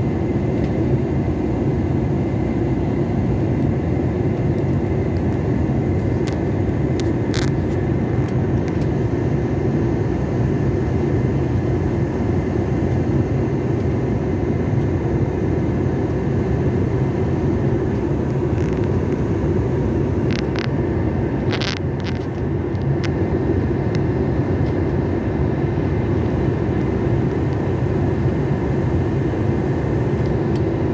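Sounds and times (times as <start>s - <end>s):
airliner cabin engine noise: 0.0s - 30.9s.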